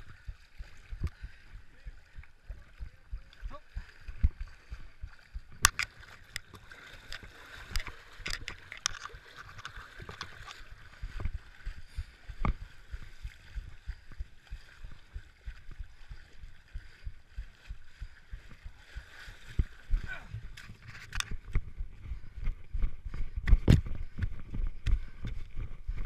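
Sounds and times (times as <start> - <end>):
person splashing through water: 0.0 - 22.3.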